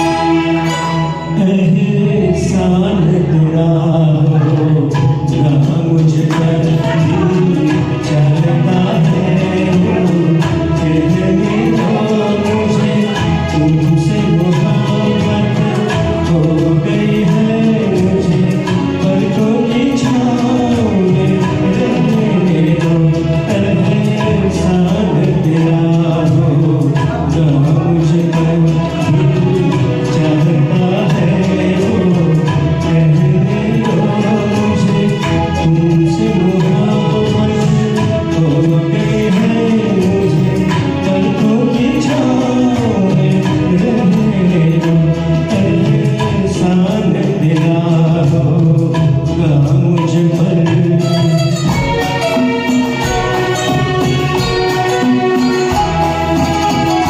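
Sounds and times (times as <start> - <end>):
film song accompaniment music: 0.0 - 57.0.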